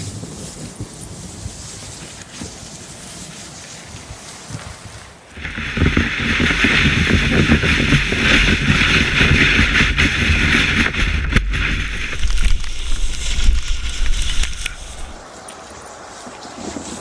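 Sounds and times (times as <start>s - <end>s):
kayak hull sliding over snow: 0.0s - 17.0s.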